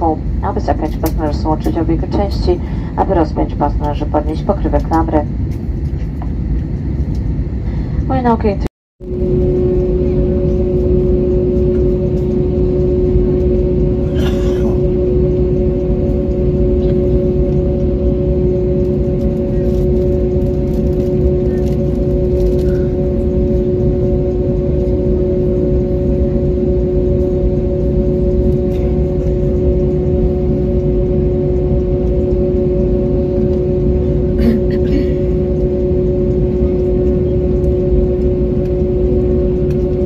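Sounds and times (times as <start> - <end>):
jet engines idling in cabin: 0.0 - 40.0.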